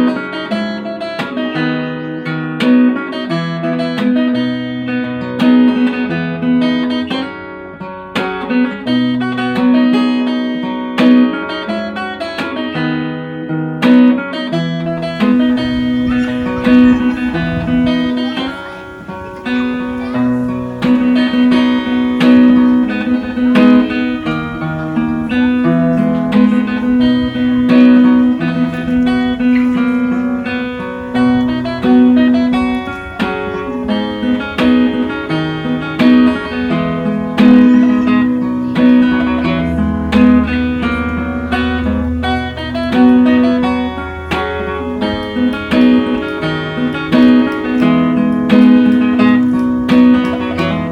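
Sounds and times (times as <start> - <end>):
plucked acoustic guitar: 0.0 - 50.9.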